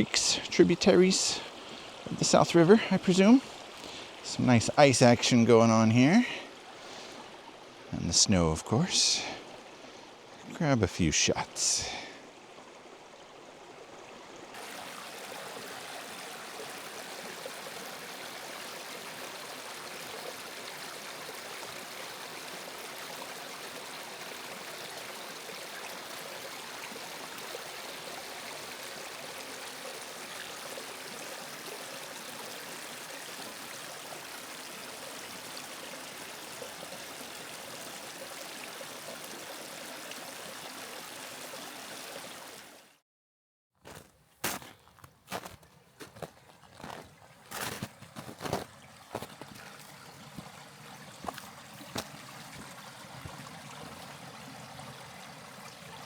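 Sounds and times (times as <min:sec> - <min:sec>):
creek flowing over rocks: 0:00.0 - 0:43.0, 0:43.9 - 0:56.0.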